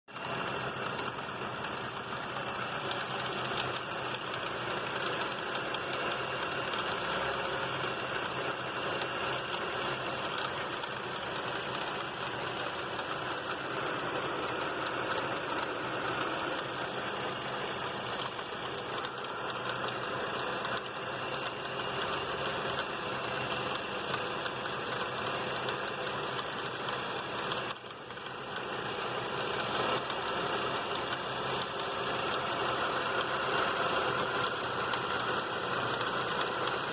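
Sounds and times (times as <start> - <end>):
car engine running: 0.2 - 36.9
weird engine belt noise: 0.2 - 36.9.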